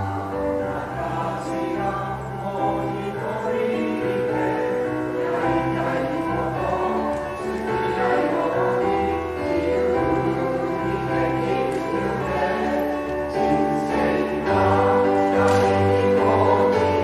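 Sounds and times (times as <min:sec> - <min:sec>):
choir singing in chords: 0:00.0 - 0:17.0.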